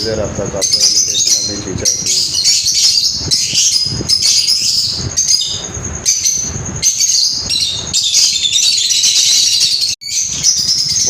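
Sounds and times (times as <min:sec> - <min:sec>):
birds chirping and chattering: 0:00.0 - 0:11.0.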